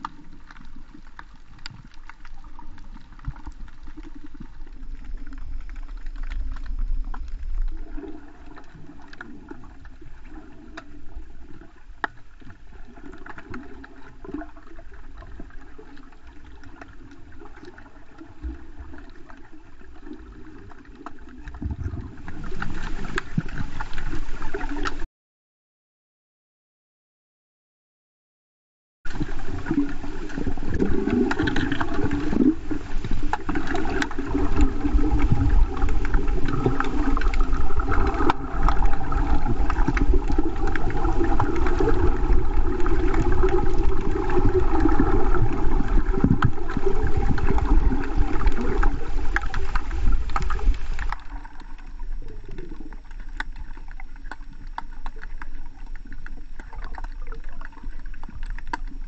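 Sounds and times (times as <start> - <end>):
crackling clicks underwater: 0.0 - 25.0, 29.1 - 59.0
muffled underwater rushing and bubbling: 0.0 - 25.0, 29.1 - 59.0.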